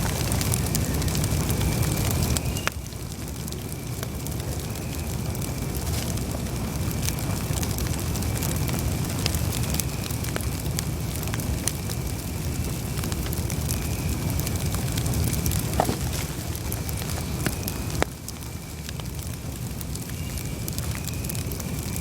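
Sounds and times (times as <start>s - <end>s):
campfire flames rumbling: 0.0s - 22.0s
fire crackling and popping: 0.0s - 22.0s.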